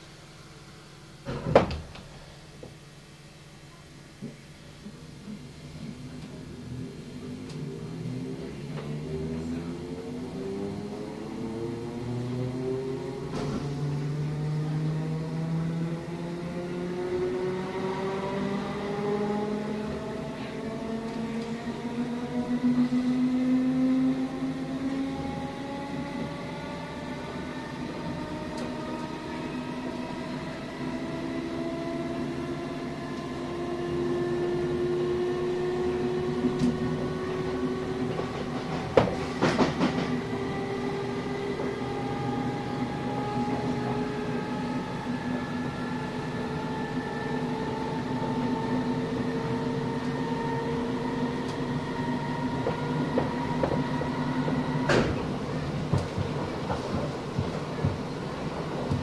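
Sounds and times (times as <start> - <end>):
electric train rumble and whine: 0.0 - 59.0.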